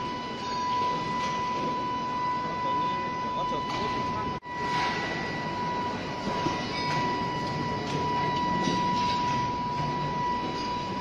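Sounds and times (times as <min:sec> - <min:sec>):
foundry industrial din: 0:00.0 - 0:11.0
high-pitched whine: 0:00.0 - 0:11.0.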